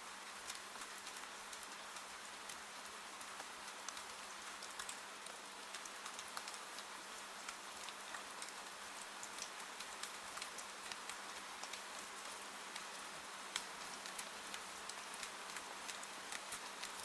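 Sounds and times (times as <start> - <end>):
steady rain: 0.0 - 17.0
raindrops ticking on window: 0.3 - 17.0.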